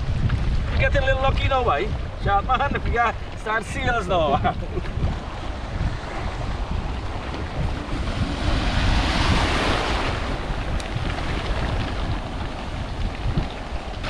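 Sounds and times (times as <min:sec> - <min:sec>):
wind buffeting microphone: 0:00.0 - 0:14.0
waves splashing against jetty: 0:01.7 - 0:14.0.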